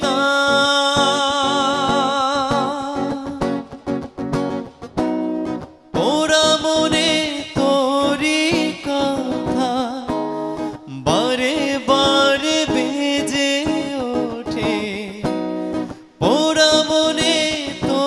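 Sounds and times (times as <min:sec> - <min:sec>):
man singing wordless notes: 0:00.0 - 0:03.8, 0:05.9 - 0:18.0
strummed acoustic guitar: 0:00.0 - 0:18.0.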